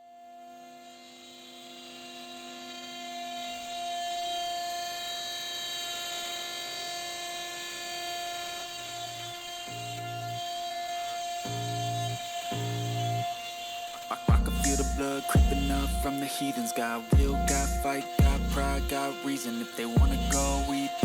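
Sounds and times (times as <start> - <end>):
router spindle whining: 0.5 - 21.0.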